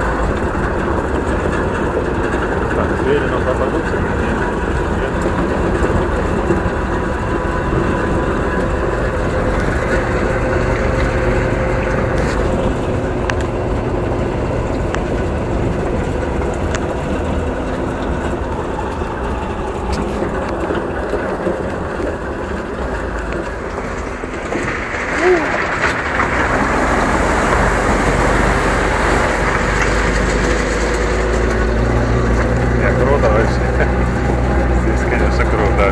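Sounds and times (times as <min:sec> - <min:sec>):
truck engine running: 0:00.0 - 0:35.9.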